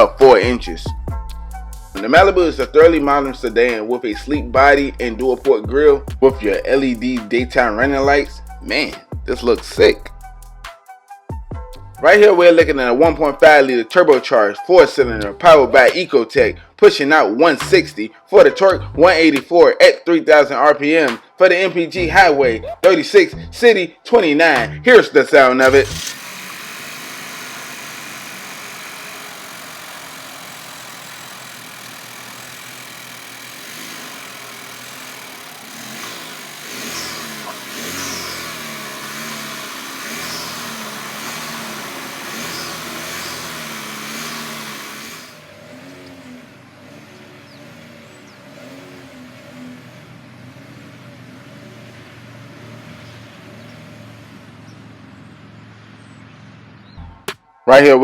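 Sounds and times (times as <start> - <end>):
car engine idling and revving: 0.0 - 13.8, 17.6 - 18.0, 18.6 - 19.5, 22.0 - 23.7, 24.5 - 57.4.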